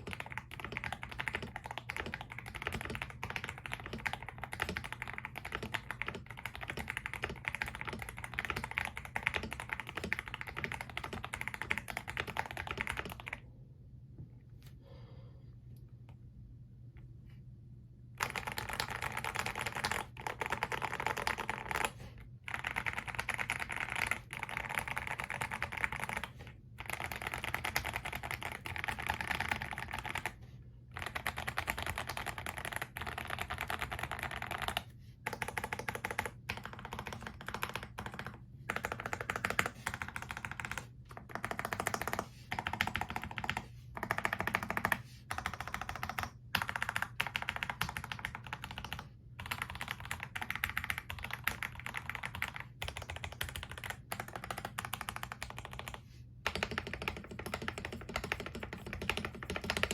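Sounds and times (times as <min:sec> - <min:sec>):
mechanical keyboard typing: 0:00.0 - 0:13.4, 0:18.2 - 0:59.9.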